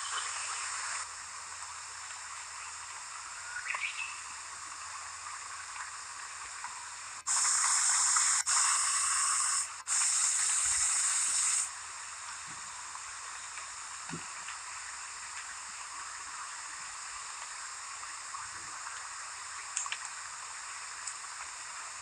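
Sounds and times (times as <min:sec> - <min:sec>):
loud even hiss: 0:00.0 - 0:02.4, 0:04.0 - 0:22.0
insects chirring: 0:00.0 - 0:22.0.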